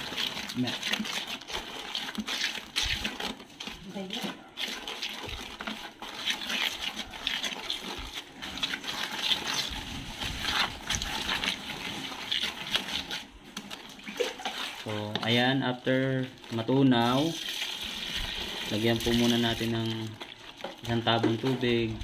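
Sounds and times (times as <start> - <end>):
stirrer churning foamy liquid: 0.0 - 22.0.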